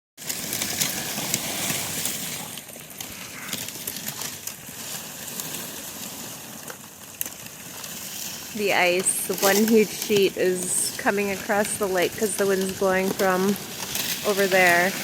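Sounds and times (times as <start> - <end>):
ice pieces crackling and clinking: 0.2 - 15.0.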